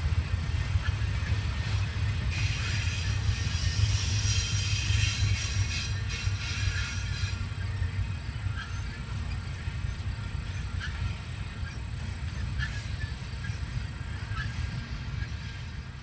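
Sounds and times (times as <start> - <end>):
distant freight train rumble: 0.0 - 16.0.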